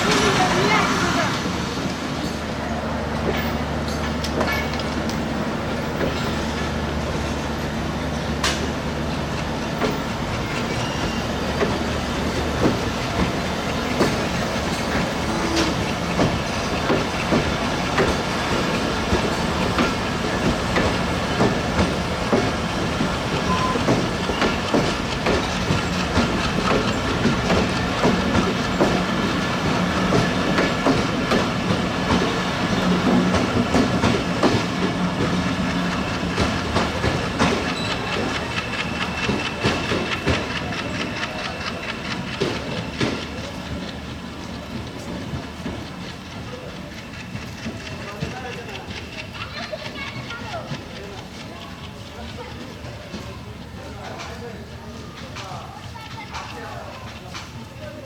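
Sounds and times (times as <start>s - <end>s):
train wheels clickety-clack: 0.0s - 58.0s.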